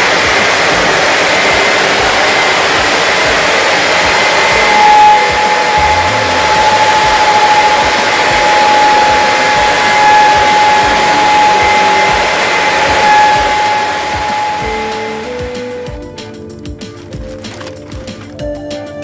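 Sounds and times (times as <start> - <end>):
industrial vacuum running: 0.0 - 18.6.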